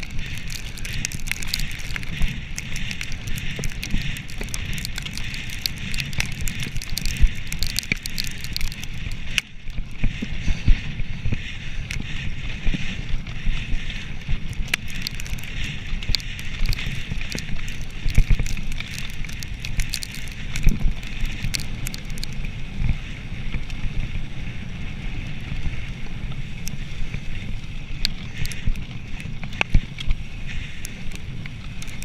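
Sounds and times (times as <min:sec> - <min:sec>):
bike clicks and rattles: 0:00.0 - 0:32.0
bike tyres rumbling on dirt: 0:00.0 - 0:32.0.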